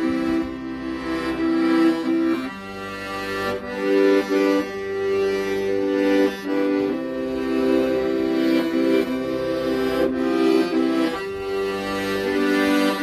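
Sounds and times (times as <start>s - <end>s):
accordion playing slow melody: 0.0s - 13.0s.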